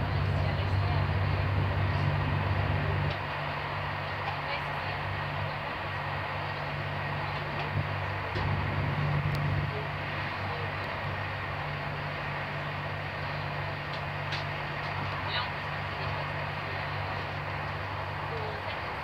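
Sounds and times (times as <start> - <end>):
train wheels on rail rumble: 0.0 - 19.0.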